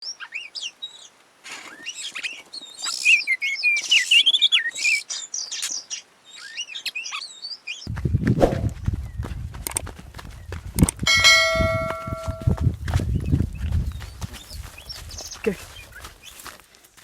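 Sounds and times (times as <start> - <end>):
songbird singing whistles and chirps: 0.0 - 9.3, 10.3 - 16.5.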